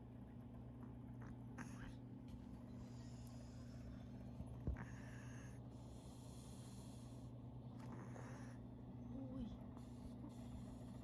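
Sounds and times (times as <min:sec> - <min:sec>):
dog snoring softly: 0:00.8 - 0:02.0, 0:02.6 - 0:11.0.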